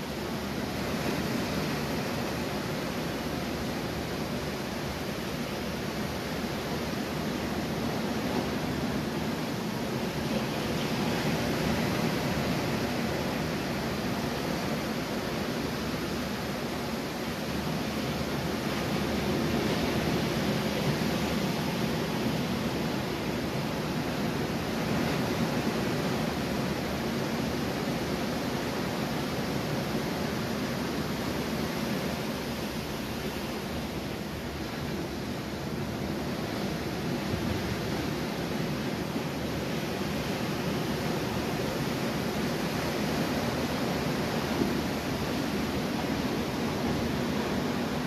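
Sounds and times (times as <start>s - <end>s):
ocean surf breaking on beach: 0.0s - 48.0s.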